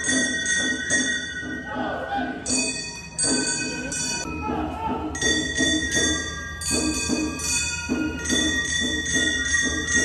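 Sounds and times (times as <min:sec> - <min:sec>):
hand gongs struck rhythmically: 0:00.0 - 0:01.7, 0:02.4 - 0:10.0.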